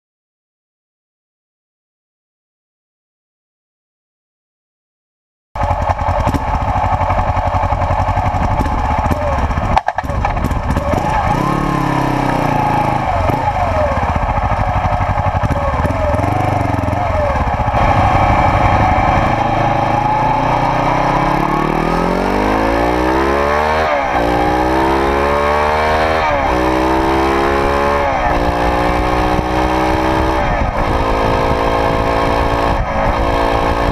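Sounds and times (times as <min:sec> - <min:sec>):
motorcycle engine accelerating: 0:05.6 - 0:33.9.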